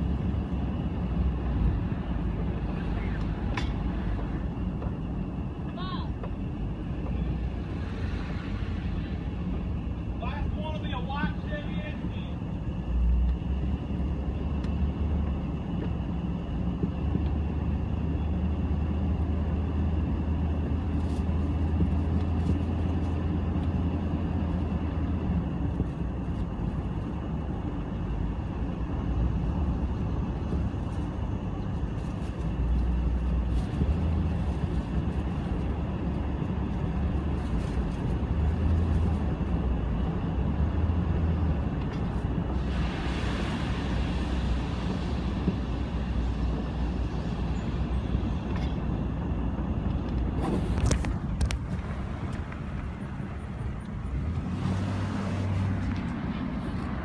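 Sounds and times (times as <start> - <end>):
motor vehicle rumble: 0.0 - 57.0.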